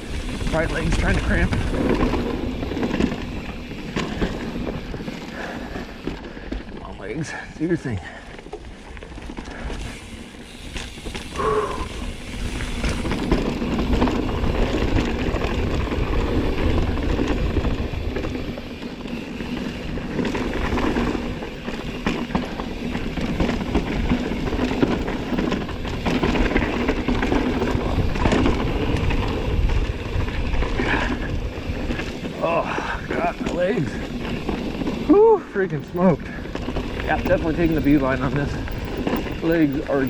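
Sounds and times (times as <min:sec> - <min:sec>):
bike rattles and knocks: 0:00.0 - 0:40.0
bike tyres rolling over dirt: 0:00.0 - 0:40.0.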